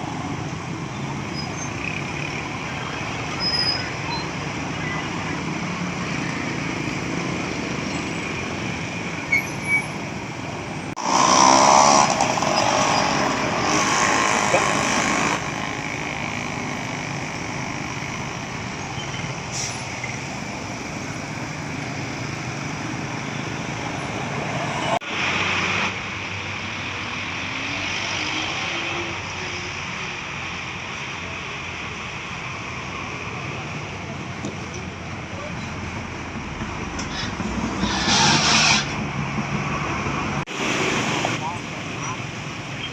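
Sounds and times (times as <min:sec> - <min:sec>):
buses passing: 0:00.0 - 0:42.9
road traffic noise: 0:00.0 - 0:42.9.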